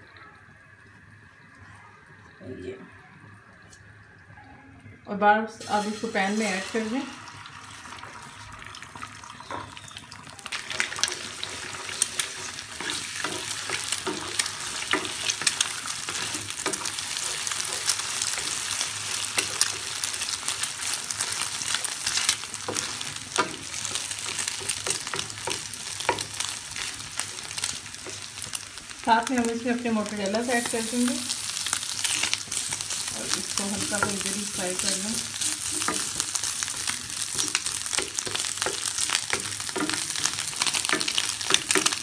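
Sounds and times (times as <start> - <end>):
eggs sizzling in hot oil: 5.1 - 42.0.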